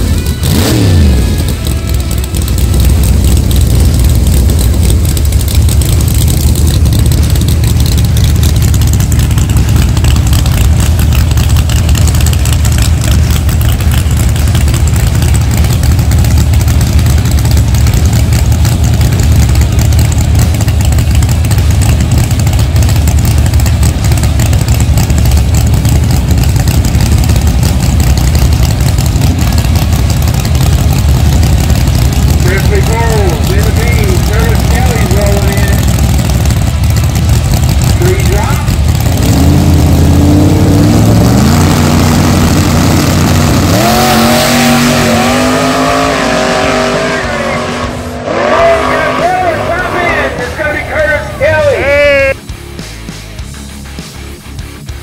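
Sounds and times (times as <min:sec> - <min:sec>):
car engine idling loudly: 0:00.0 - 0:55.0.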